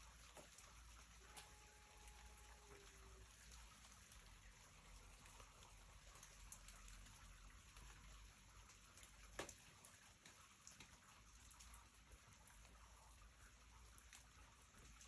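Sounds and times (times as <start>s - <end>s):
light rain hiss: 0.0s - 15.0s
raindrops ticking: 0.0s - 15.0s
sharp water drip: 0.0s - 15.0s.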